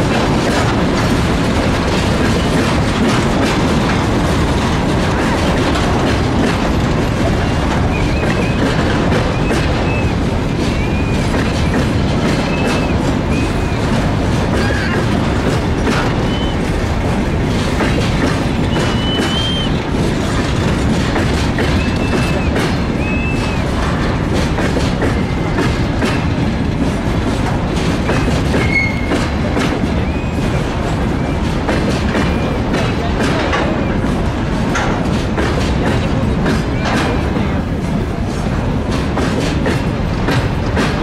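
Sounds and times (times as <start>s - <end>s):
wheels clattering over rail joints: 0.0s - 41.0s.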